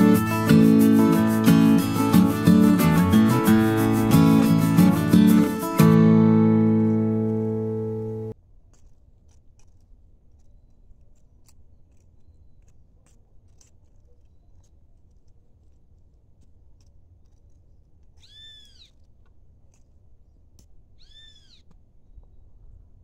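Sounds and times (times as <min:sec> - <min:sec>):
hand hoe scraping dry soil: 0:00.0 - 0:07.4, 0:08.6 - 0:20.2.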